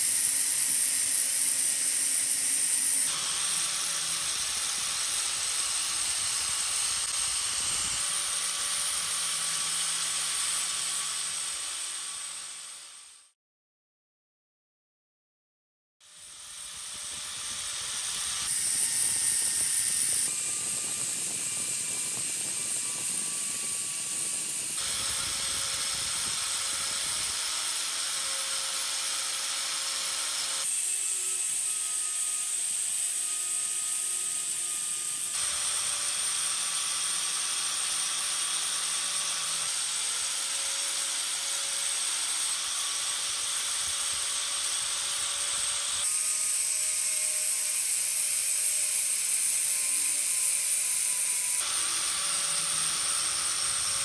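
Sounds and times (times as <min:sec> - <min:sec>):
power tool motor whine: 0:00.0 - 0:13.4, 0:16.0 - 0:54.0.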